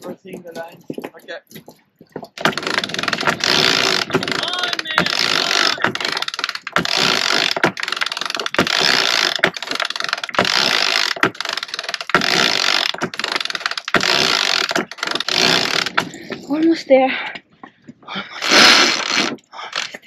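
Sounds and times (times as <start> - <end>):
winch pawls clicking: 0.0 - 16.5.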